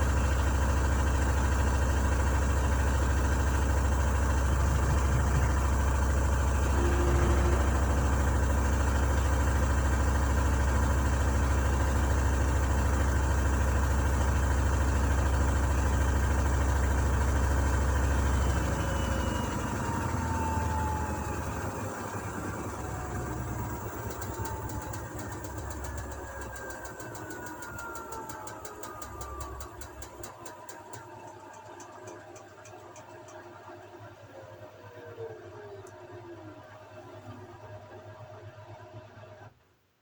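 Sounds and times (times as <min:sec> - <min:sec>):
washing machine drum spinning: 0:00.0 - 0:33.0
motor winding down with whines: 0:00.0 - 0:39.5.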